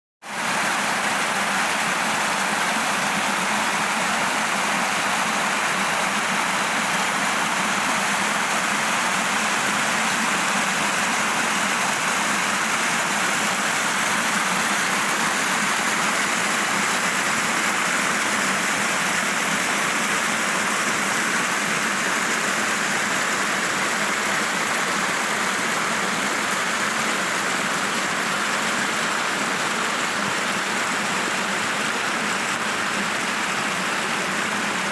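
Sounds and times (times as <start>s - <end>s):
running water rushing: 0.2s - 34.9s.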